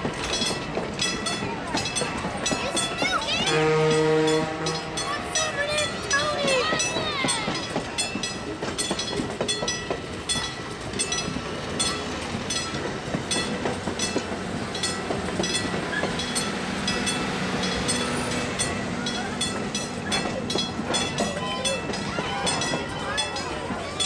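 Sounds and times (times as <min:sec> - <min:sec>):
train rumble: 0:00.0 - 0:24.0
train wheels clacking on rails: 0:00.0 - 0:24.0.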